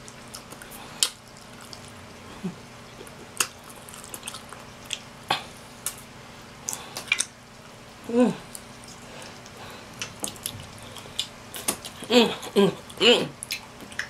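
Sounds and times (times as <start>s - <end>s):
lip smacks and chewing: 0.0s - 7.8s, 8.4s - 14.0s.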